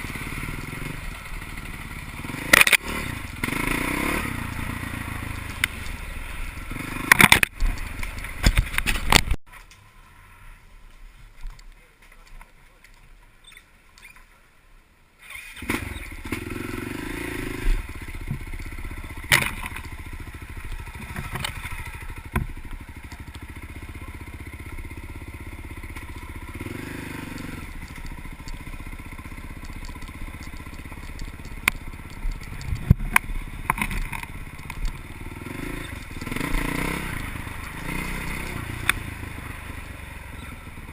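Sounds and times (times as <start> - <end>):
off-road vehicle engine: 0.0 - 40.9.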